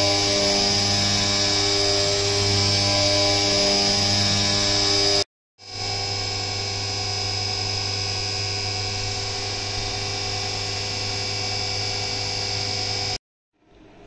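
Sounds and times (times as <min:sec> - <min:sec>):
milling machine spindle whine: 0:00.0 - 0:13.2.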